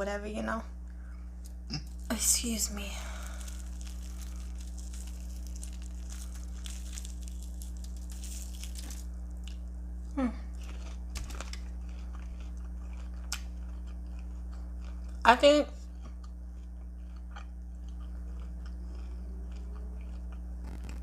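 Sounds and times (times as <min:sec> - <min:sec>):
steady electrical hum: 0:00.0 - 0:21.0
biting and chewing crunchy food: 0:01.4 - 0:21.0.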